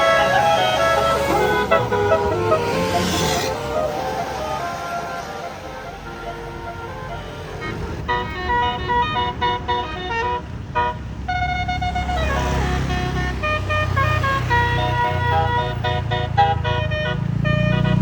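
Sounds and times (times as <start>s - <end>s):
bus engine rumbling: 0.0s - 18.0s
bus musical horn tune: 0.0s - 18.0s.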